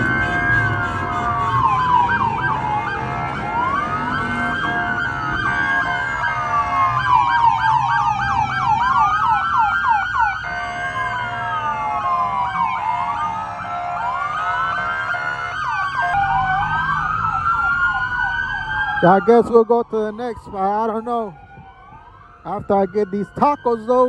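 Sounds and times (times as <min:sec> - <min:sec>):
fast siren yelp: 0:00.0 - 0:24.0
police sirens wailing: 0:00.0 - 0:24.0.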